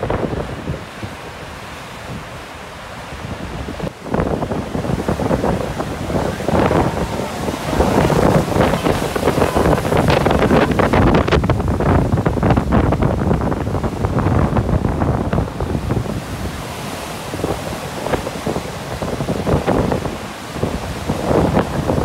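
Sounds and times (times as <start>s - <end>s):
storm waves crashing on beach: 0.0s - 22.0s
wind gusts buffeting microphone: 0.0s - 22.0s.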